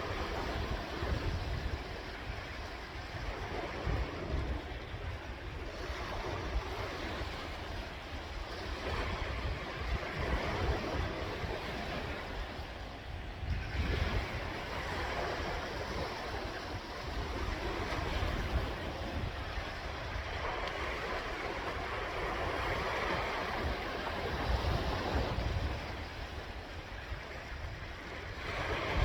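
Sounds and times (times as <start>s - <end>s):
sea waves breaking on shore: 0.0s - 29.0s
wind buffeting microphone: 0.0s - 29.0s.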